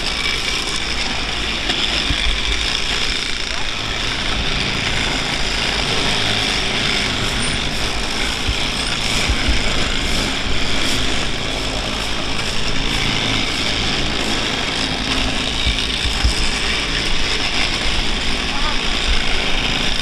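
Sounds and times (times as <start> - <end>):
track machinery engine running: 0.0 - 20.0.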